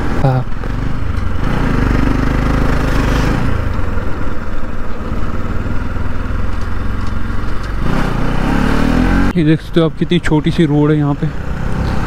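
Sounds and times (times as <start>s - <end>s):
motorcycle engine at low revs: 0.0s - 9.5s, 10.4s - 12.0s.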